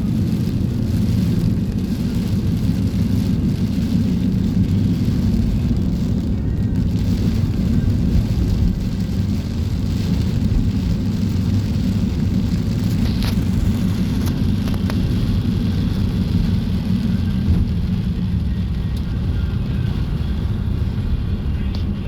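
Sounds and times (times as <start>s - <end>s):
heavy rain rushing: 0.0s - 22.0s.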